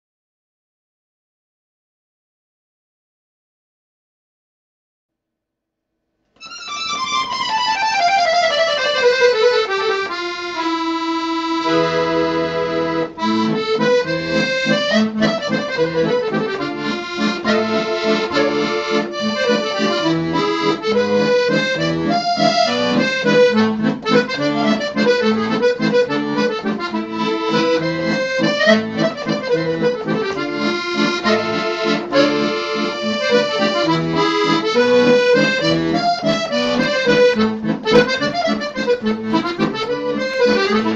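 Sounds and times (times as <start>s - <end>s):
accordion music: 6.4s - 40.9s.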